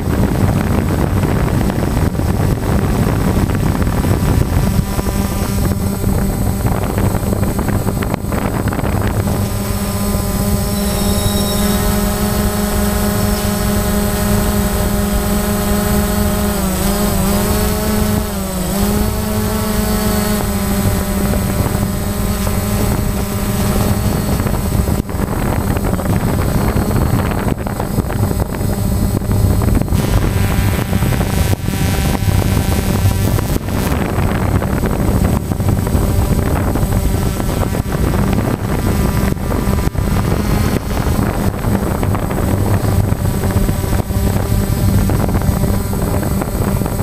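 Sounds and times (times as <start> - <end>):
drone motors and propellers humming: 0.0 - 47.0.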